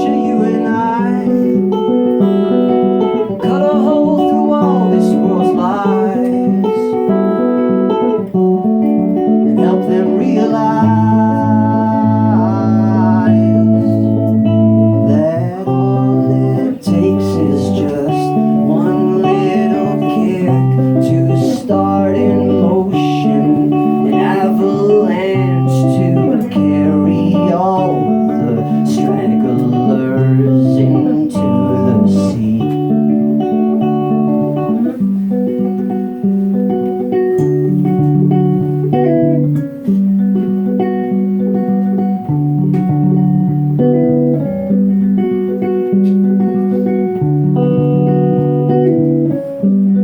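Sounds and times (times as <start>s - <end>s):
bending electric guitar lead: 0.0s - 50.0s
sustained electric guitar chords: 0.0s - 50.0s.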